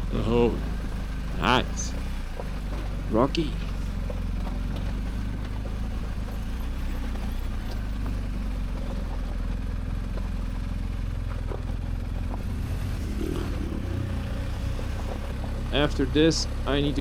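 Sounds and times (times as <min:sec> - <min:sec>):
motorcycle engine running: 0:00.0 - 0:17.0
stones clicking under tyres: 0:00.8 - 0:15.8.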